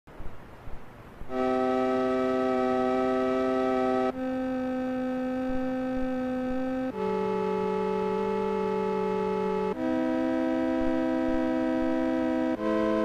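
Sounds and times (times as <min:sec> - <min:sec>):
slow held chords music: 0:00.7 - 0:13.0.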